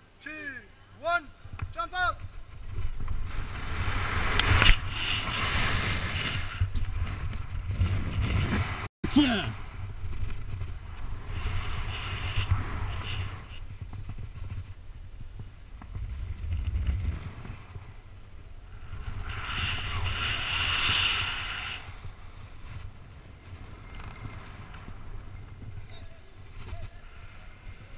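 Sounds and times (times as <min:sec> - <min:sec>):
rushes of air: 0:01.3 - 0:27.9
wind buffeting microphone: 0:01.3 - 0:27.9.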